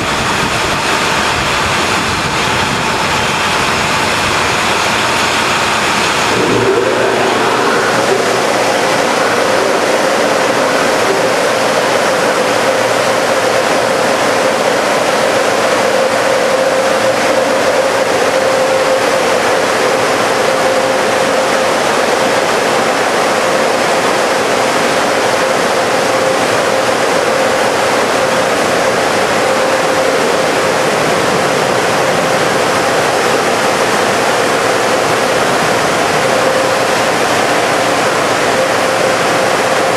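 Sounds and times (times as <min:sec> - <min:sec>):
faint machinery whine: 0:00.0 - 0:39.9
water spraying onto truck: 0:00.0 - 0:39.9.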